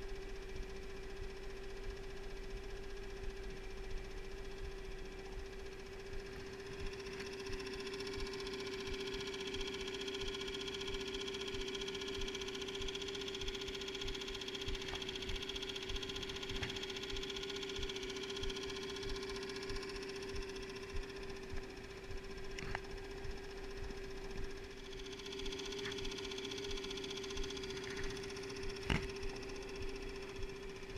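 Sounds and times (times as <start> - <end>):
outboard motor running: 0.0 - 30.9.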